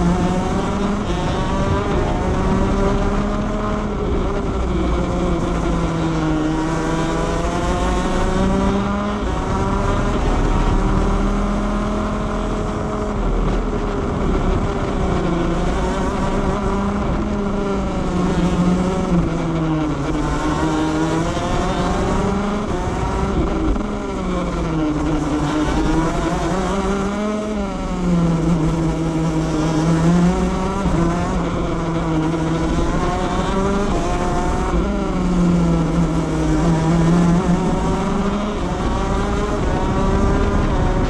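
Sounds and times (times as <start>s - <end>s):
kart engine revving: 0.0s - 41.0s.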